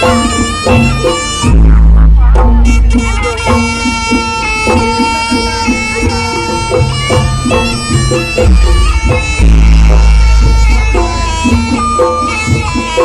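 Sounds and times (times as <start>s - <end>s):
drum strokes: 0.0s - 13.0s
shawm melody: 0.0s - 13.0s.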